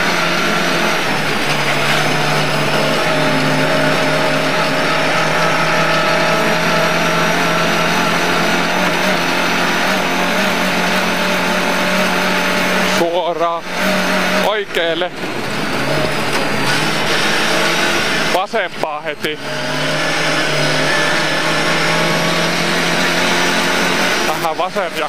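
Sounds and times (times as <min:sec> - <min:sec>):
car engine at high revs: 0:00.0 - 0:25.0
road and tyre noise: 0:00.0 - 0:25.0.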